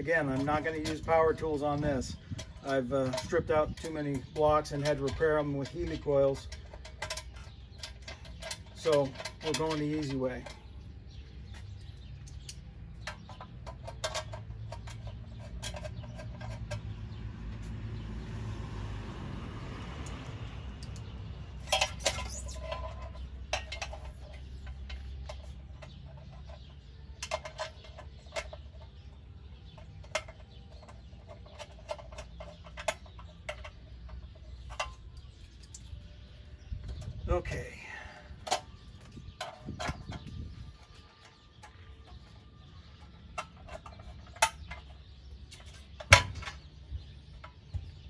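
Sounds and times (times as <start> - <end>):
tools clicking and clinking: 0.0 - 17.9, 20.0 - 37.2, 38.3 - 48.0.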